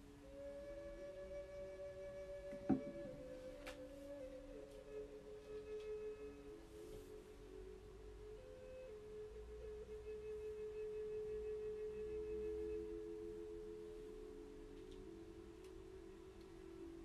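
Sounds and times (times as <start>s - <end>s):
soft music of sustained tones: 0.0s - 17.0s.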